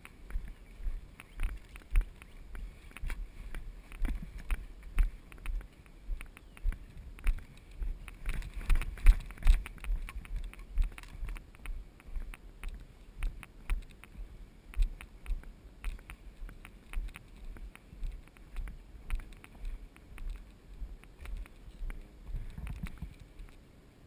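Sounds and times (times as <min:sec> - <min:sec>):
sharp ticks: 0:00.0 - 0:23.6
wind on microphone: 0:00.0 - 0:23.6.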